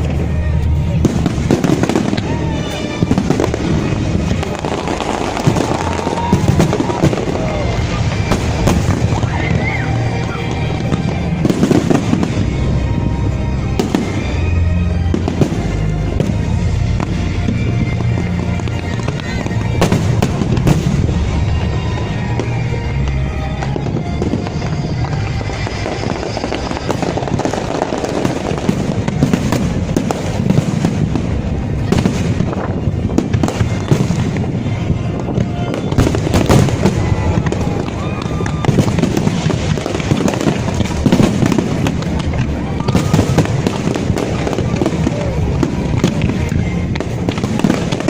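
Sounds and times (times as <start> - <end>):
continuous low rumble: 0.0 - 48.0
fireworks bangs and crackling: 0.0 - 48.0.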